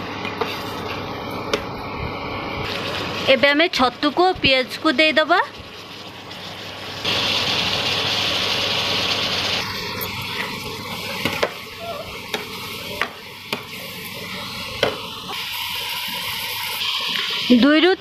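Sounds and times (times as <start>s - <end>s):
food sizzling in a pan: 2.4s - 18.0s.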